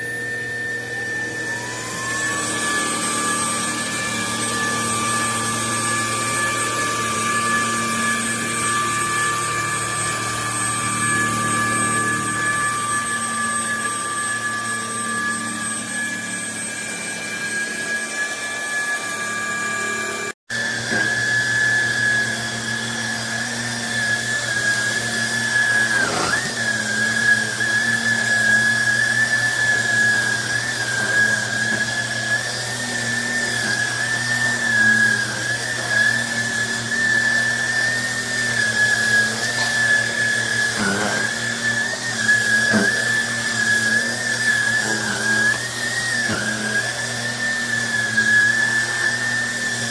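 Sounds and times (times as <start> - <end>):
vacuum cleaner motor whine: 0.0 - 49.9.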